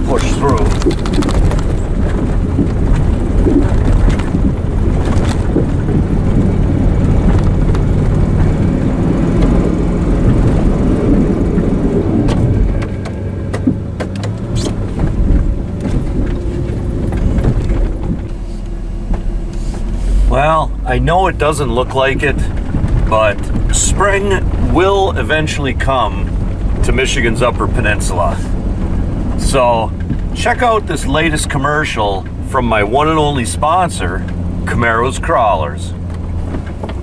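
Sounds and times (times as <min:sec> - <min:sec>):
truck engine under load: 0:00.0 - 0:37.0.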